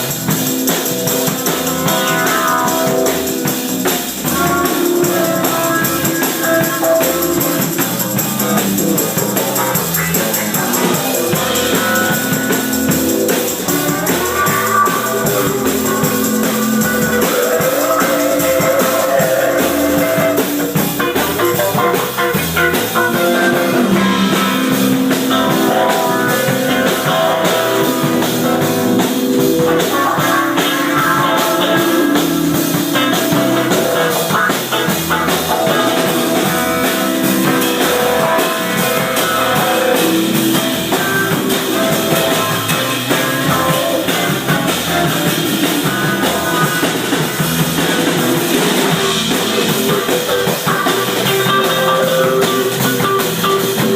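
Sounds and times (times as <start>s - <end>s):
rock band playing live: 0.0s - 53.9s.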